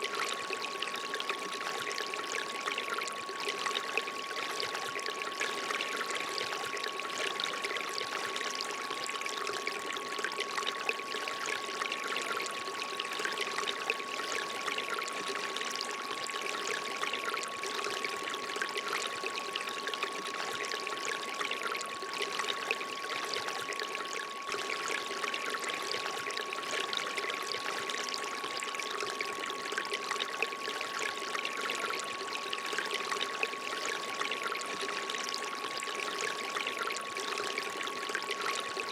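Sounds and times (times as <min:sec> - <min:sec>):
water trickling from fountain: 0:00.0 - 0:38.9.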